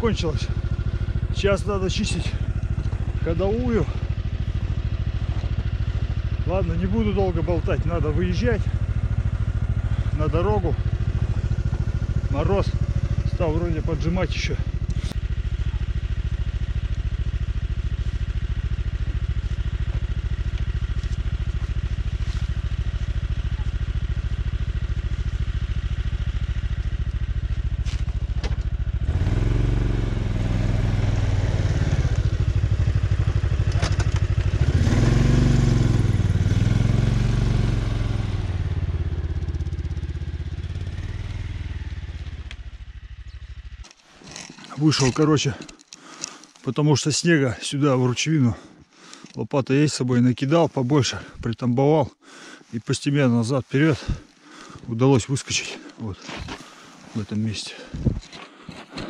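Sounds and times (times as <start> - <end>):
snowmobile engine idling and revving: 0.0 - 59.0.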